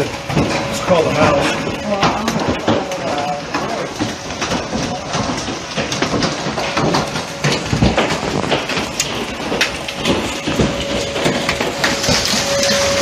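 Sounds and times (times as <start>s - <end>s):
hail pelting down: 0.0s - 13.0s.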